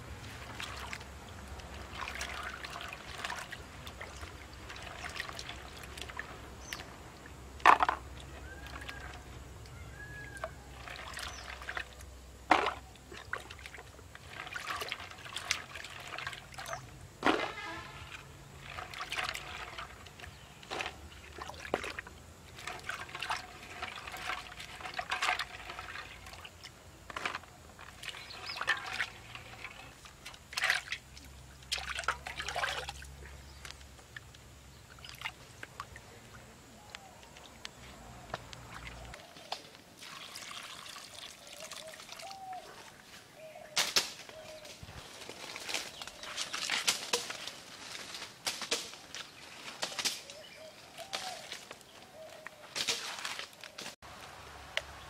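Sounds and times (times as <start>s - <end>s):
water sloshing and splashing: 0.0s - 55.0s.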